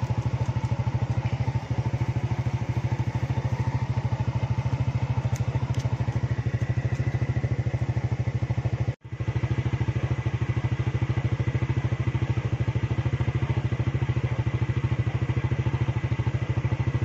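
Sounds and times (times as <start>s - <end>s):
motorcycle engine puttering: 0.0s - 17.0s.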